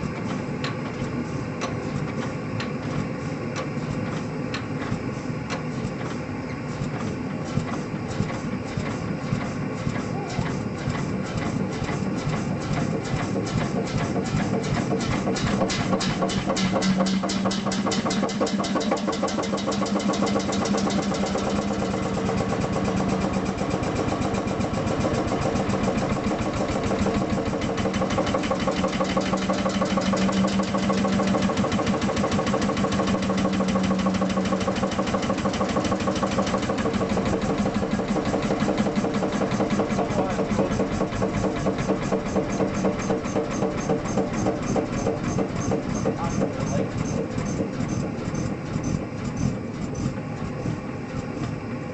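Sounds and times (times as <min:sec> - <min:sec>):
stationary engine running: 0:00.0 - 0:51.9.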